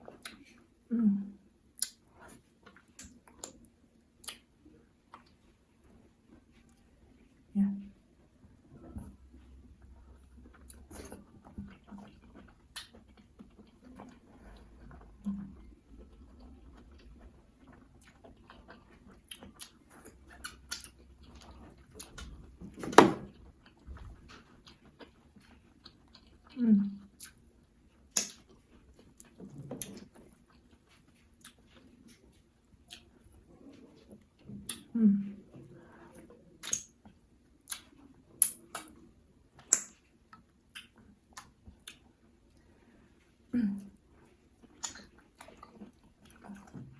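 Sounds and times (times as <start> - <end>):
wet mouth chewing sounds: 1.7 - 4.5, 9.0 - 22.6, 23.3 - 34.9, 35.6 - 42.9, 43.8 - 46.9.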